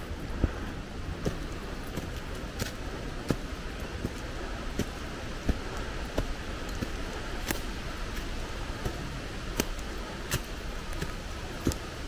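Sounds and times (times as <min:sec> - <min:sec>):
background noise: 0:00.0 - 0:12.0
footsteps on dry leaves: 0:00.0 - 0:12.0.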